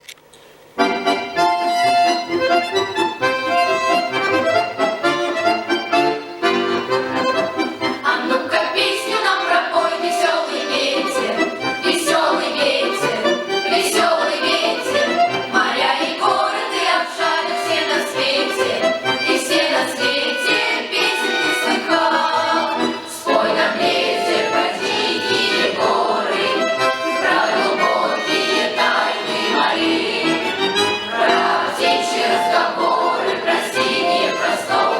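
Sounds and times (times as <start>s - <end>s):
accordion-led music: 0.7s - 34.9s.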